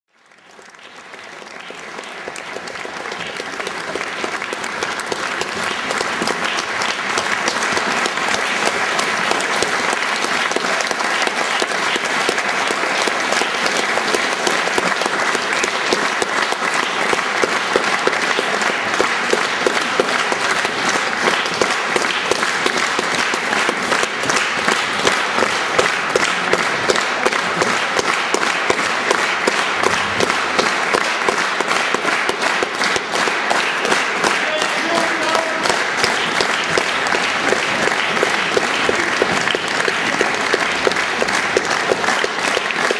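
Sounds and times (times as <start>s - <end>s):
audience applauding: 0.1s - 42.9s.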